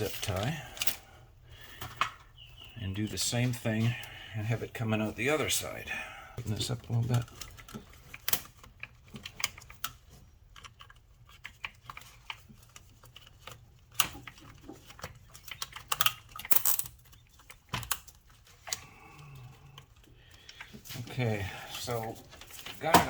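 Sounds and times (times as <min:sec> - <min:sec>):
plastic being handled: 0:00.0 - 0:23.0.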